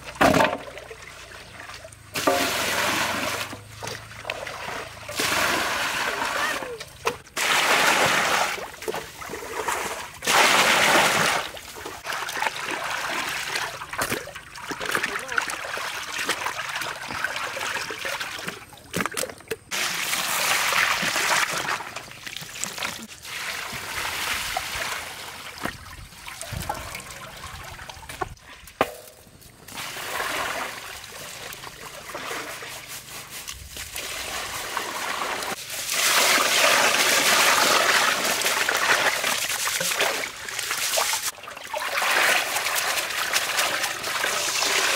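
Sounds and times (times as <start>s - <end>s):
water splashing into metal basin: 0.2s - 28.2s, 33.9s - 44.9s.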